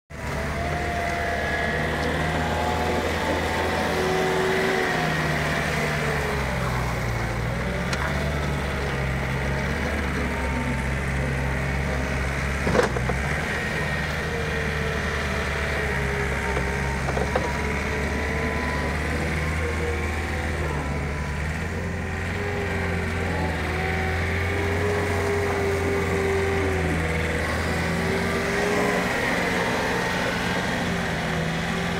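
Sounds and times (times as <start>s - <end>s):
diesel engine running: 0.1s - 31.9s
whine shifting in pitch: 0.1s - 31.9s.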